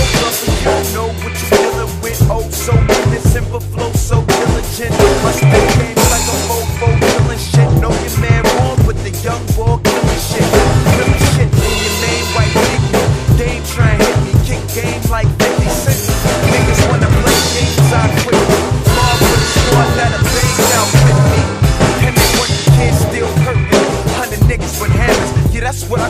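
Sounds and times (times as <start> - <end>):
drum kit playing: 0.0 - 26.0
hip-hop track with heavy bass: 0.0 - 26.0.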